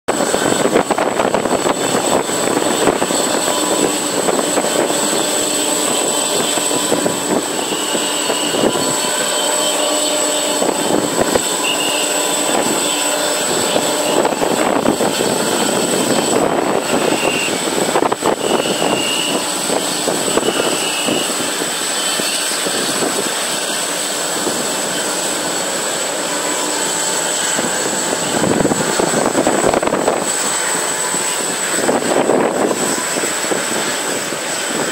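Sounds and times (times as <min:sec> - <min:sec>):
distant jet airliner landing: 0:00.1 - 0:34.9
thin high whine: 0:00.1 - 0:34.9.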